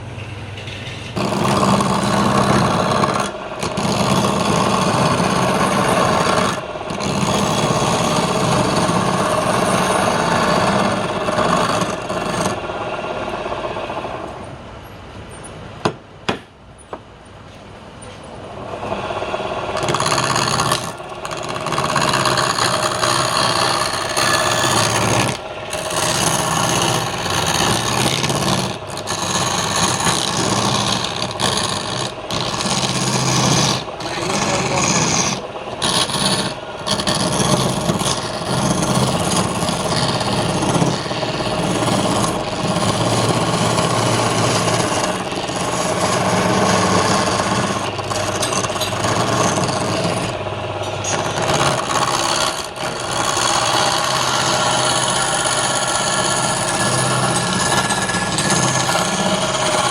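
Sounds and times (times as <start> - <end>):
lathe tool cutting wood: 1.0 - 14.3, 18.6 - 59.9.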